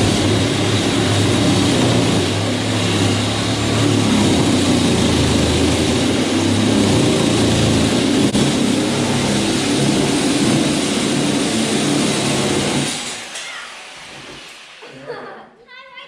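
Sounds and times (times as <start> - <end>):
truck engine running: 0.0 - 13.2
broad rushing noise: 0.0 - 14.8.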